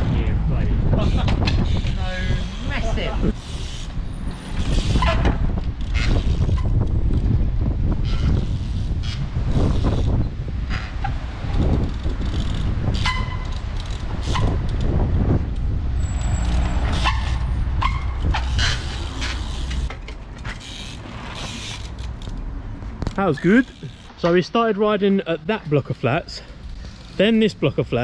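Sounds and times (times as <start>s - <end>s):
low street rumble: 0.0s - 28.0s.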